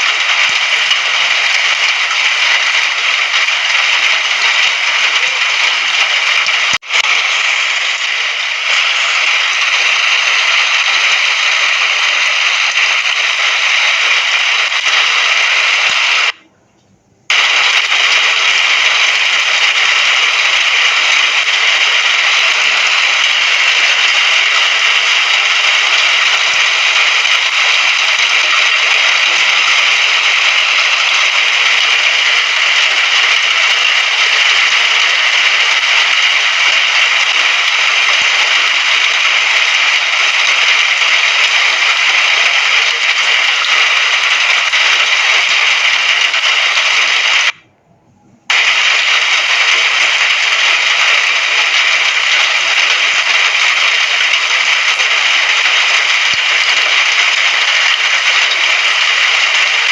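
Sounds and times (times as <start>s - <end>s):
rain hissing: 0.0s - 16.4s, 17.3s - 47.6s, 48.5s - 59.9s.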